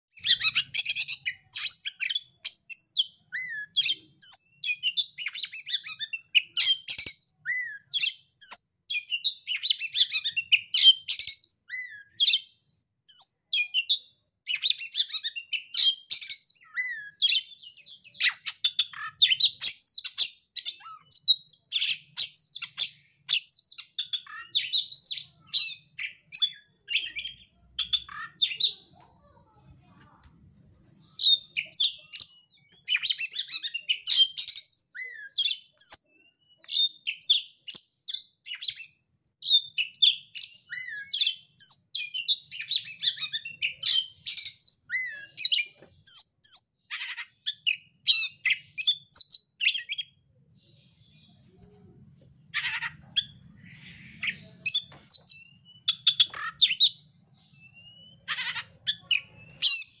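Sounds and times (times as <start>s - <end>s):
bird singing whistles and trills: 0.1s - 28.8s, 31.1s - 50.2s, 53.2s - 60.0s.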